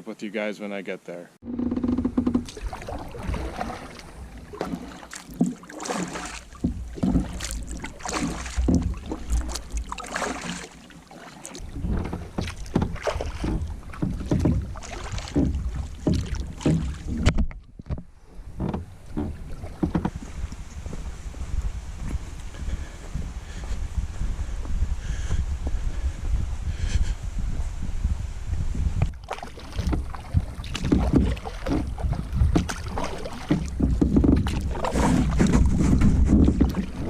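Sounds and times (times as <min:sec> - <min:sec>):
wind rumbling on microphone: 0:01.4 - 0:05.0, 0:06.1 - 0:10.3, 0:11.6 - 0:37.0
paddle splashing in water: 0:01.5 - 0:23.6, 0:29.0 - 0:37.0.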